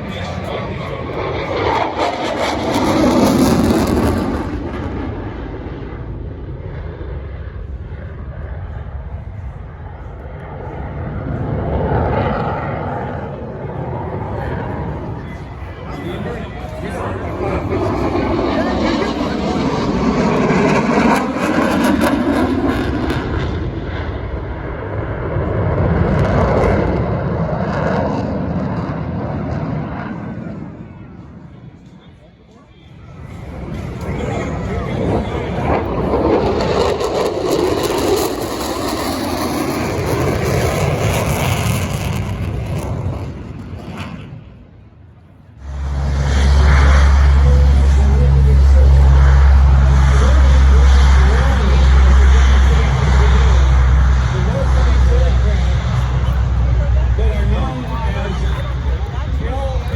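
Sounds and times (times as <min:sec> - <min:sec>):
airplane flying past: 0:00.0 - 0:59.9.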